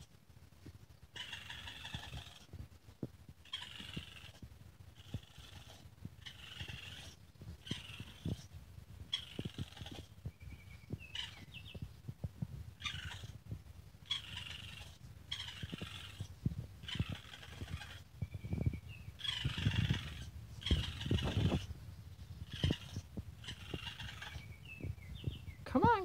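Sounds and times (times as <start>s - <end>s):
baby raccoon chittering: 1.1s - 2.6s, 3.3s - 12.0s, 12.8s - 26.0s.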